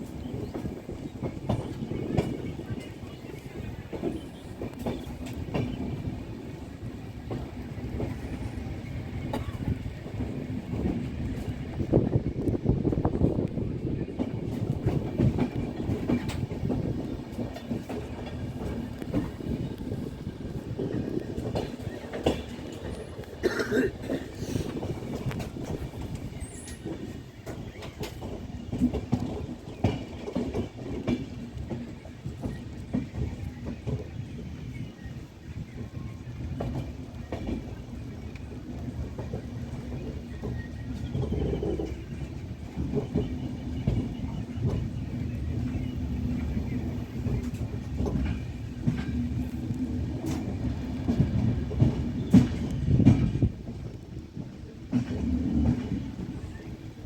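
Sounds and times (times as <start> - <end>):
train rumble: 0.0 - 57.0
wheels clacking over rail joints: 0.0 - 57.0.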